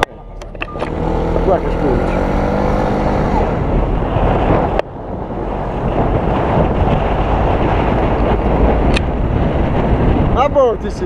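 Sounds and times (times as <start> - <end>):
car rumble: 0.0 - 11.0
wind rushing over microphone: 0.0 - 11.0.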